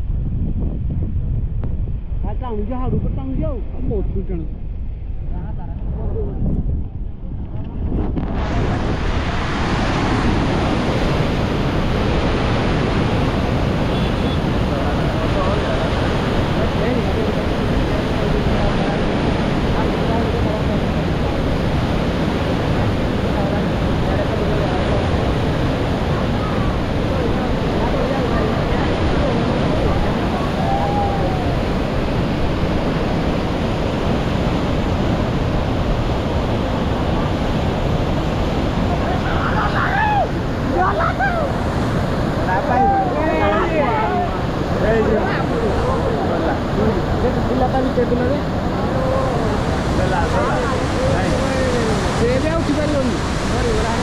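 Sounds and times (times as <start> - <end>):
floodwater rushing through spillway: 8.2 - 54.0.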